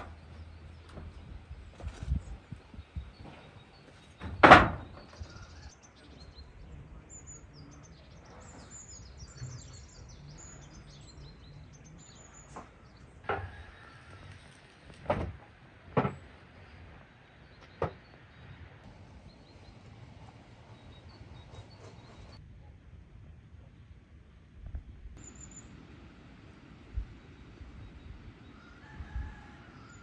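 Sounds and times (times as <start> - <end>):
songbirds chirping: 0.0 - 22.4, 23.2 - 30.0.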